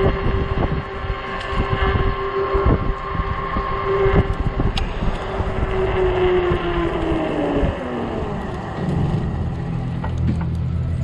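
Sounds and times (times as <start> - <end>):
electric motor whining: 0.0 - 11.0
wind gusting over microphone: 0.0 - 11.0.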